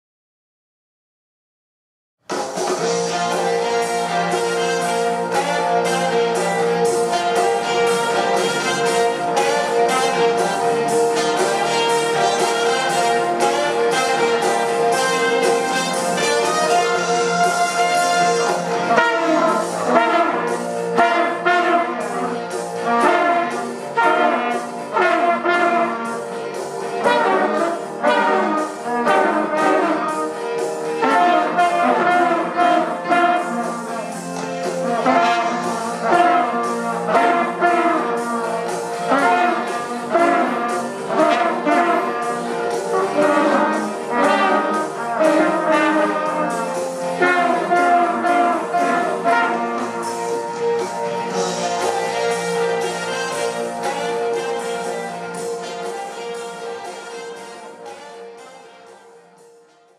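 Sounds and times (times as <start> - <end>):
cornets playing a tune: 2.3 - 59.9.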